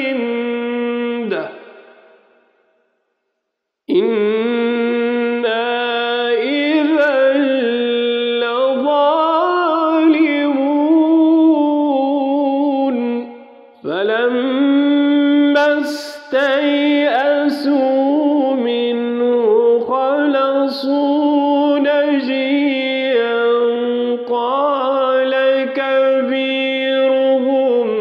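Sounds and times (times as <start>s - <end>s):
man chanting melodic recitation: 0.0s - 1.6s, 3.9s - 13.3s, 13.9s - 28.0s.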